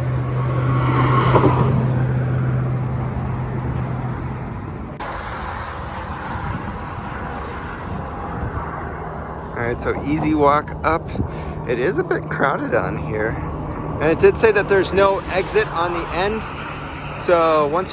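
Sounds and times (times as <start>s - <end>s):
highway traffic drone: 0.0s - 17.9s
hiss of passing cars: 0.0s - 17.9s.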